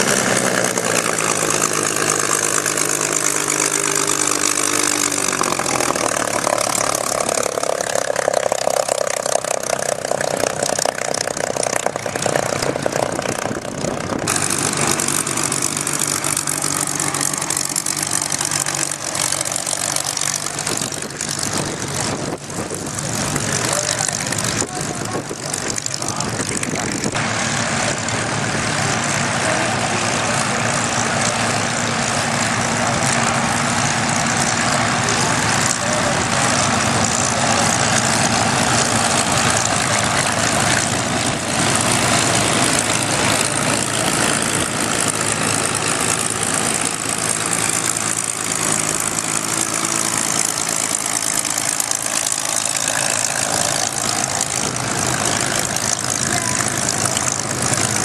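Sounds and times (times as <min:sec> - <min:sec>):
piston aircraft engines taxiing: 0:00.0 - 0:58.0.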